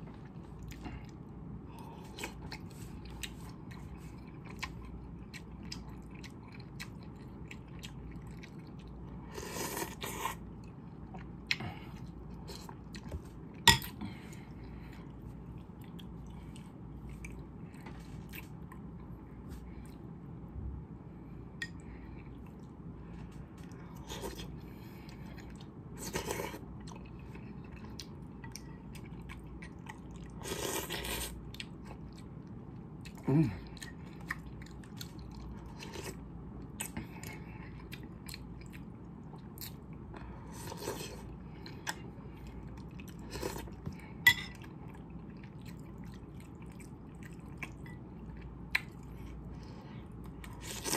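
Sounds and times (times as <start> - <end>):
low room noise: 0.0 - 50.9
person chewing: 0.1 - 20.1, 23.6 - 50.9.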